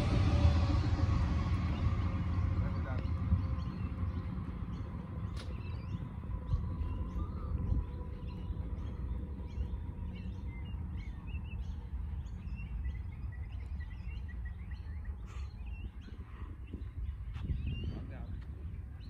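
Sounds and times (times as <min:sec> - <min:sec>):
low outdoor rumble: 0:00.0 - 0:19.0
small birds chirping: 0:01.5 - 0:19.0.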